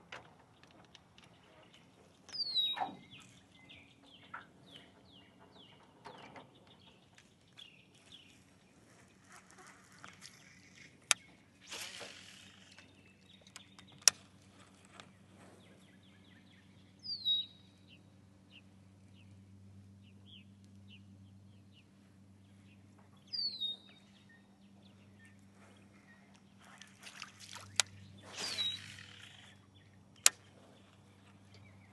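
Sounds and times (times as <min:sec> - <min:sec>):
birds chirping: 0:00.5 - 0:31.9.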